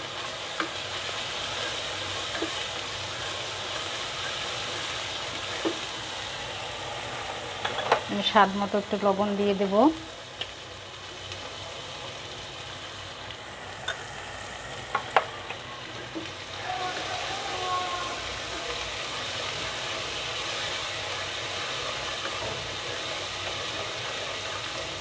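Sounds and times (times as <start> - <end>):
paste sizzling in oil: 0.0 - 25.0.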